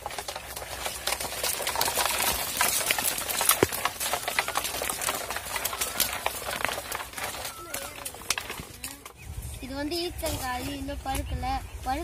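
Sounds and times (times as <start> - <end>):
dry leaves crackling and rustling: 0.0 - 12.0.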